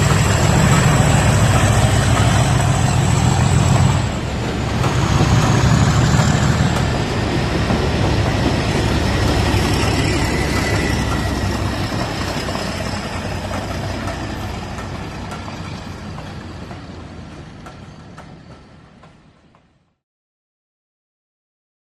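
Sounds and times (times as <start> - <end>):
model locomotive engine rumble: 0.0 - 18.6
track noise: 0.0 - 19.7.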